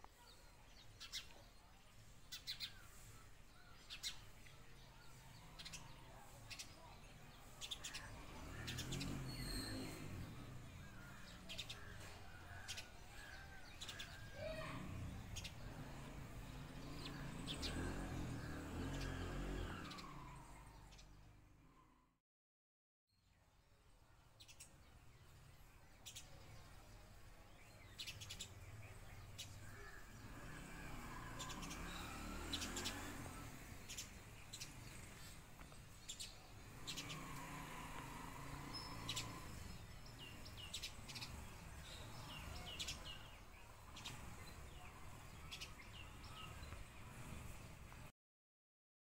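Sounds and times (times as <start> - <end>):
songbirds chirping: 0.0 - 22.1, 23.1 - 48.1.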